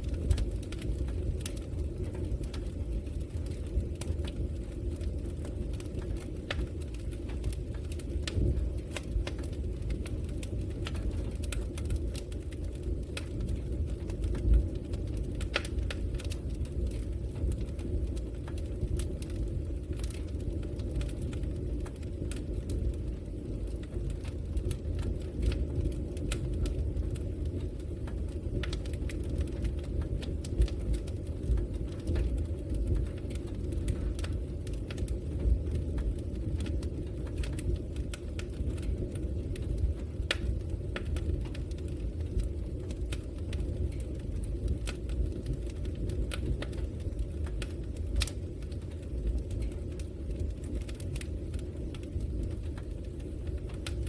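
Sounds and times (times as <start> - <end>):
fire crackling and popping: 0.0 - 54.0
fire rumbling: 0.0 - 54.0.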